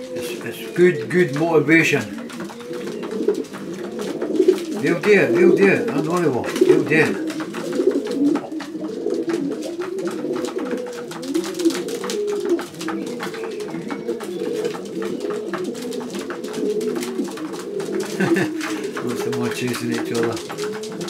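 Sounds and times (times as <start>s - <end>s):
pigeons cooing: 0.0s - 21.0s
light clicks and taps: 1.0s - 21.0s.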